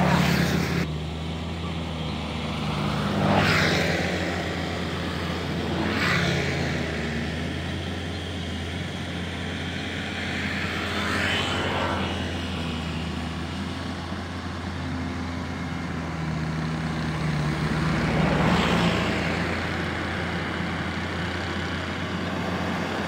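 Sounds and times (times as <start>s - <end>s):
tractor engine droning: 0.0s - 23.0s.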